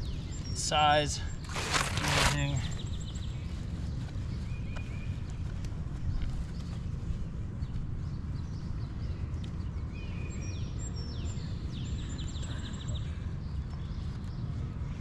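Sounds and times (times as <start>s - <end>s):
wind buffeting microphone: 0.0s - 12.4s
songbird singing: 0.0s - 15.0s.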